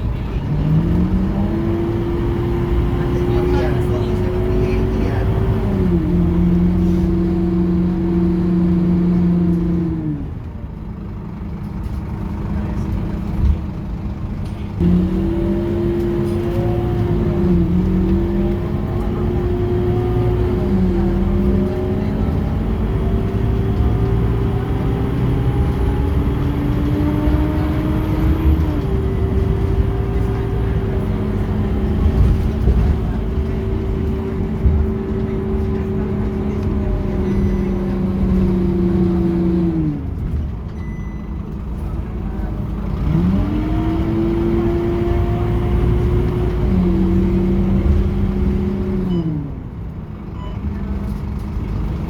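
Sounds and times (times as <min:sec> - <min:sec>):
bus diesel engine accelerating: 0:00.0 - 0:52.0.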